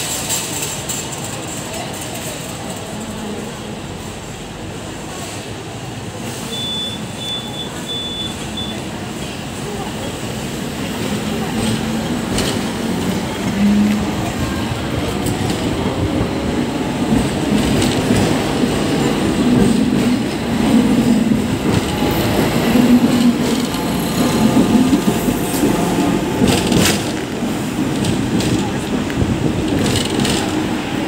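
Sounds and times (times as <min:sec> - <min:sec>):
tram wheels rumbling on rails: 0:00.0 - 0:31.0.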